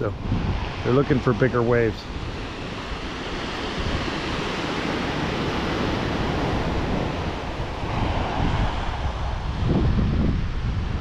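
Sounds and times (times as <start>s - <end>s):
surf washing up beach: 0.0s - 11.0s
wind rumbling on microphone: 0.0s - 11.0s.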